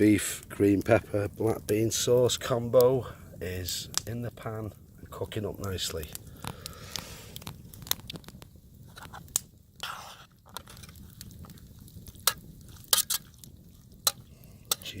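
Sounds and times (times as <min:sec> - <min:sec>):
campfire crackling: 0:00.0 - 0:15.0
low rumble of burning: 0:00.0 - 0:15.0
sharp fire pops: 0:00.0 - 0:15.0.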